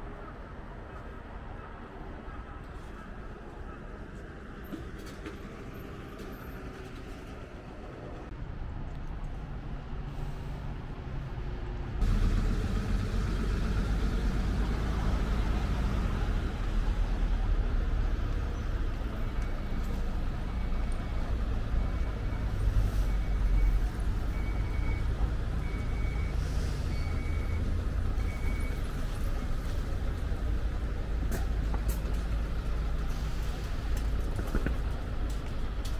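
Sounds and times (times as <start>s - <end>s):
rumble of passing vehicles: 0.0s - 35.9s.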